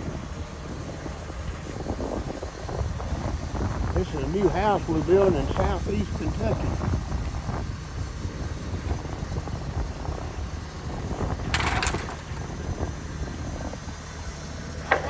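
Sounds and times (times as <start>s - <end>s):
crane engine rumbling: 0.0s - 15.0s.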